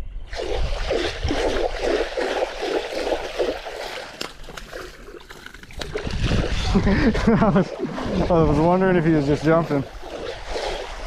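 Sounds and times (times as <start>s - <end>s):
fish thrashing and splashing: 0.3s - 11.0s.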